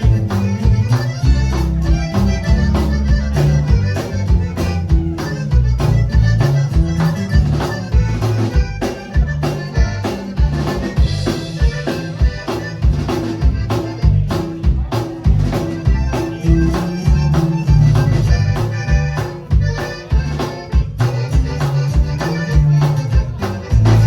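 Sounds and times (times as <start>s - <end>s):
accordion playing a tune: 0.0s - 24.0s
bass line: 0.0s - 24.0s
percussion beat: 0.0s - 24.0s.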